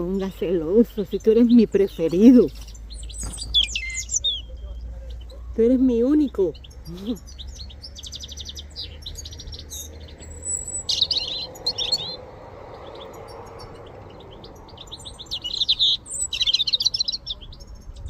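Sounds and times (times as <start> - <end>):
songbird twittering: 0.0 - 18.0.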